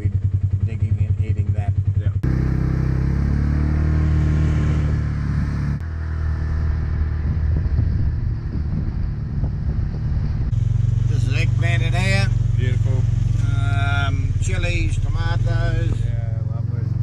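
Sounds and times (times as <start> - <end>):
buggy engine running: 0.0 - 17.0.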